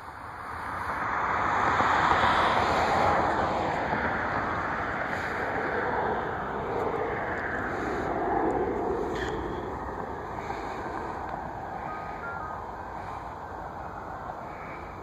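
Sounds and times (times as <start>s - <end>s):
falling whine: 0.0s - 15.0s
vehicle rushing by: 0.4s - 15.0s.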